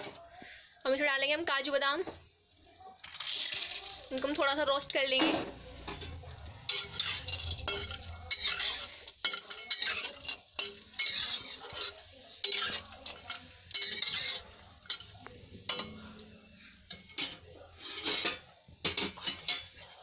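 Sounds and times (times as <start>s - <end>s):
light sizzle: 0.0s - 20.0s
spatula scraping nuts in pan: 3.0s - 20.0s.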